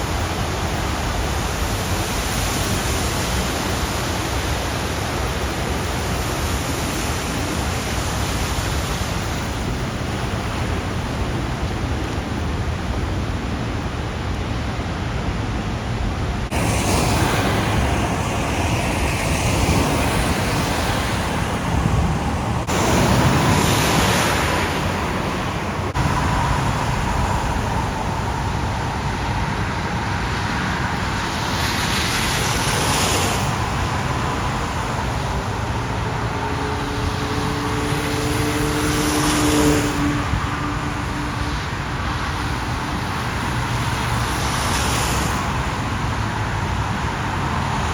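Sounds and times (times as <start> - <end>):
cars driving through water: 0.0 - 47.9.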